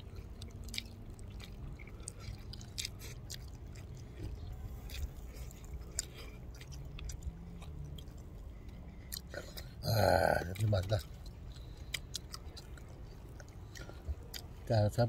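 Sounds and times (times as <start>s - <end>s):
person chewing: 0.0s - 14.7s
faint low hum: 0.0s - 15.0s.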